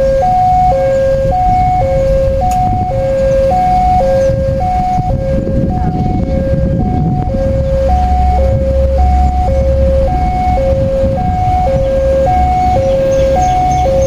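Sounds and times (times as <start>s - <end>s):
dense low rumble: 0.0s - 14.0s
level crossing two-tone alarm: 0.0s - 14.0s.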